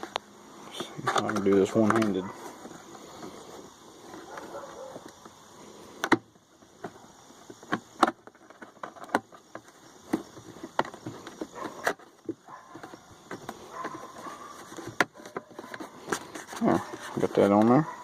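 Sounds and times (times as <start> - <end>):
plastic parts clicking and knocking: 0.0 - 3.0, 6.0 - 17.8.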